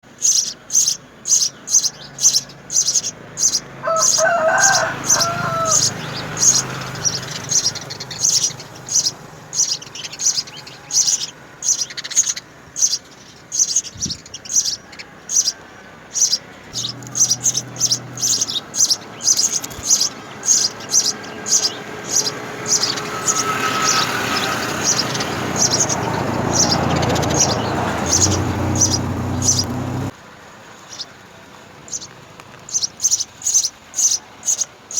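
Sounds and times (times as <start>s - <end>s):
sparrows chirping: 0.0s - 30.1s, 30.8s - 31.2s, 31.8s - 34.9s.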